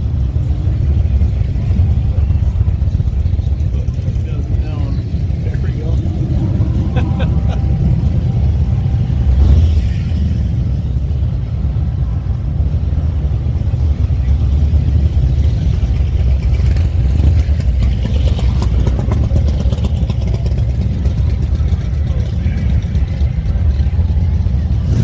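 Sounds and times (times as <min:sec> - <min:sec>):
motorcycle engines revving: 0:00.0 - 0:25.0
street traffic: 0:00.0 - 0:25.0.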